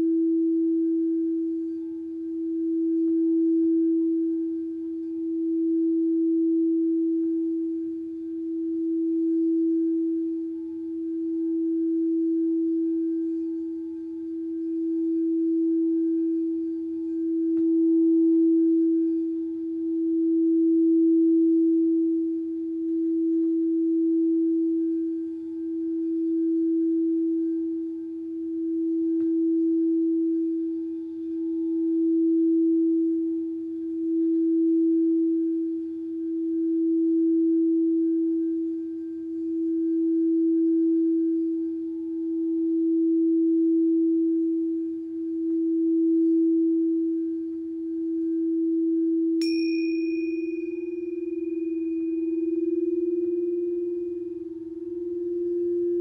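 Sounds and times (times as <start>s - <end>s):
singing bowl tone: 0.0s - 56.0s.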